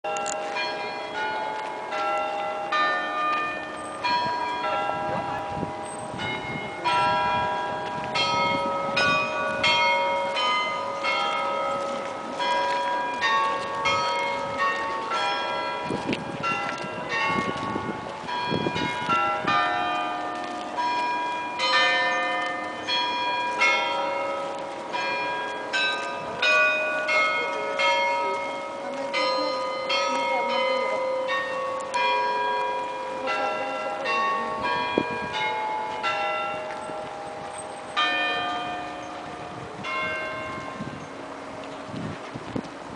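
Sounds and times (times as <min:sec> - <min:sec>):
church bells pealing: 0:00.1 - 0:42.9.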